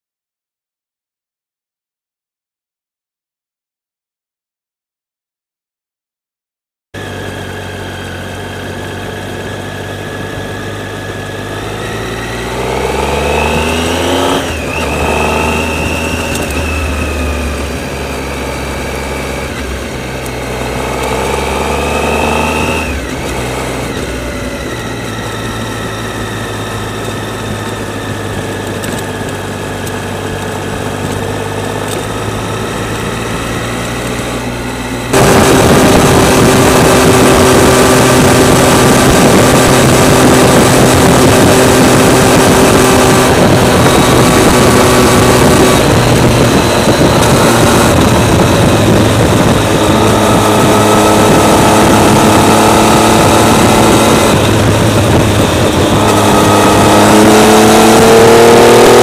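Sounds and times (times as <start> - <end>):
motorcycle engine accelerating: 7.0 - 59.0.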